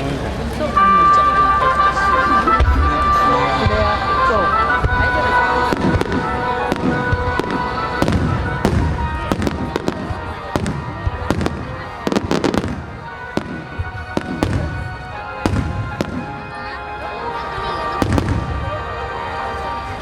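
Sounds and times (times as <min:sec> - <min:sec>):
music with sustained tones: 0:00.5 - 0:20.0.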